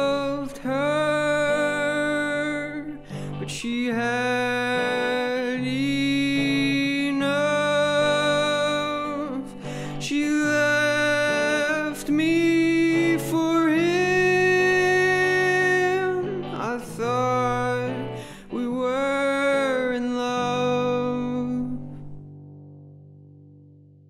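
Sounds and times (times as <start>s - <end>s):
man singing: 0.0s - 22.2s
electric guitar chords: 0.0s - 24.0s.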